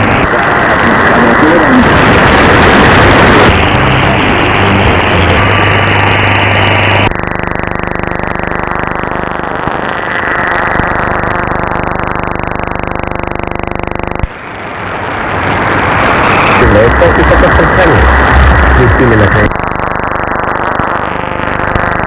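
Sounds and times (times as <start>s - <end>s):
buzz of interference pulses: 0.0s - 22.0s
radio static hiss: 0.0s - 22.0s.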